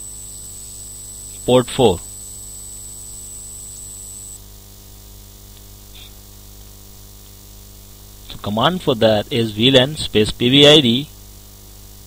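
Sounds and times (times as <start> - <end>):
electrical mains hum: 0.0 - 12.0
thin high whine: 0.0 - 12.0.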